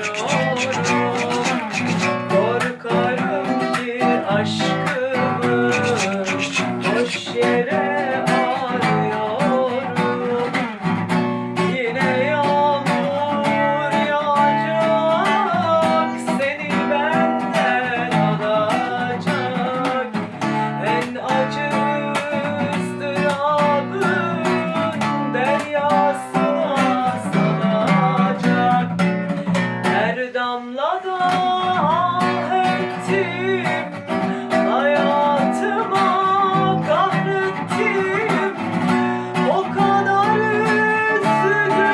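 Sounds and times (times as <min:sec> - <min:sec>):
acoustic guitar music: 0:00.0 - 0:41.9.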